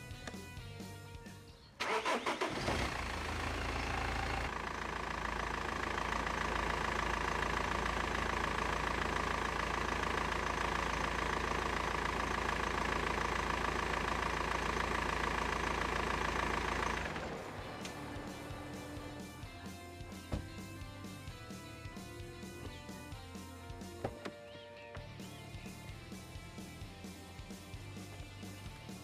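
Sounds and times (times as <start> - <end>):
car engine starting and idling: 0.0 - 29.0.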